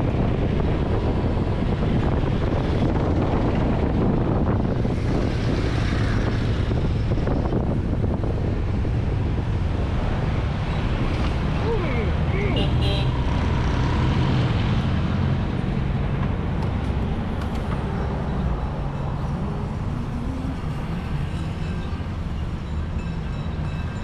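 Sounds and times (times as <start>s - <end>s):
vehicle engine low rumble: 0.0s - 23.8s.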